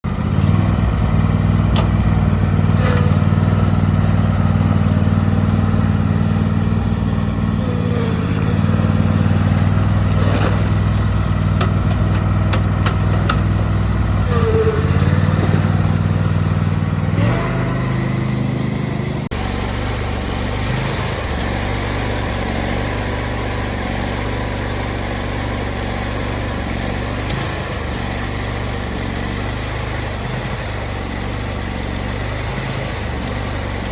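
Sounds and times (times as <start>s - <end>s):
riding lawn mower engine: 0.0s - 33.9s.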